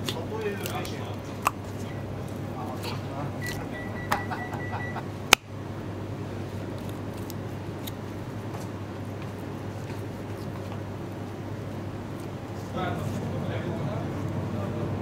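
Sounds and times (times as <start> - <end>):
low kitchen hum: 0.0 - 15.0.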